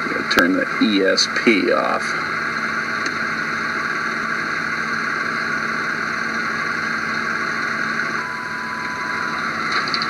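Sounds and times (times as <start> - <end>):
car engine idling: 0.0 - 10.0
faint steady hum: 0.0 - 10.0.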